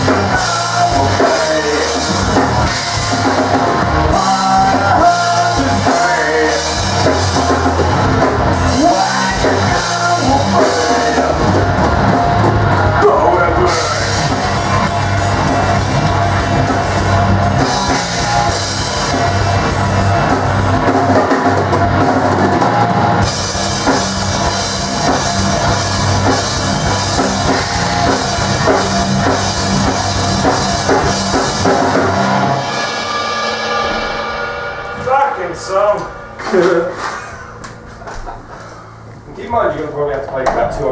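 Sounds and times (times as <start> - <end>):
drum kit with cymbals: 0.0 - 39.0
bass guitar: 0.0 - 40.9
distorted electric guitars: 0.0 - 40.9.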